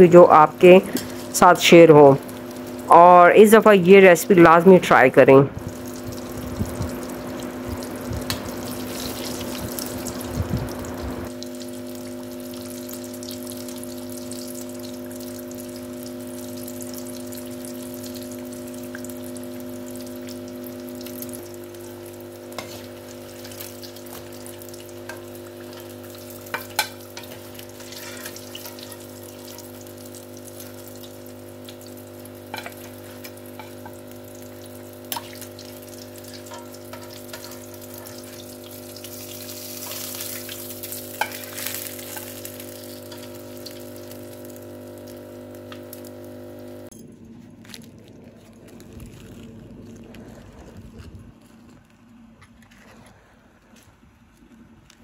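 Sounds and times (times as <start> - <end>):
food deep-frying in hot oil: 0.0 - 46.9.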